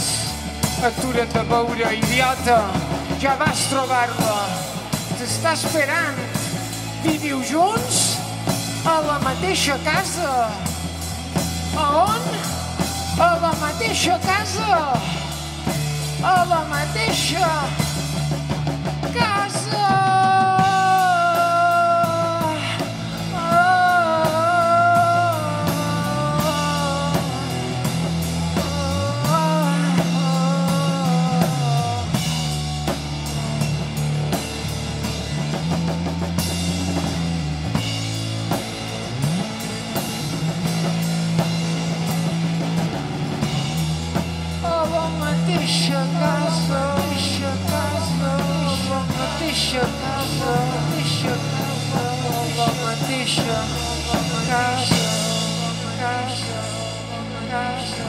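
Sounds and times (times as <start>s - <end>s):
bass line: 0.0s - 58.0s
drum kit beat: 0.0s - 58.0s
electric guitar: 0.0s - 58.0s.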